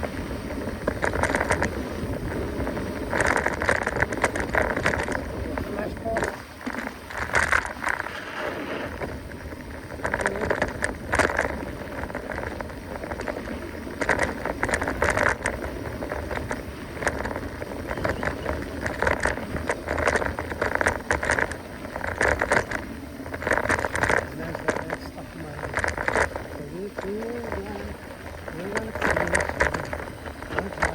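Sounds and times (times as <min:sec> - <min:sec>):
bike rattling: 0:00.0 - 0:30.9
mountain bike tyres rumbling: 0:00.0 - 0:30.9.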